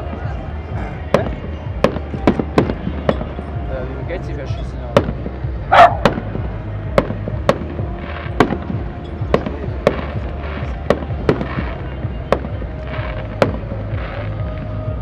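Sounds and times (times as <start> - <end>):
fireworks bursting bangs: 1.0 - 3.6, 4.9 - 15.0.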